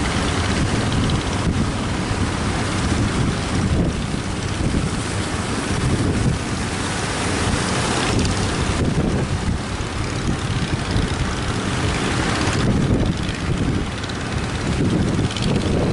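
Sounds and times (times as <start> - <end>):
boat engine running: 0.0 - 15.9
sea surf: 0.0 - 15.9
wind buffeting microphone: 0.0 - 15.9.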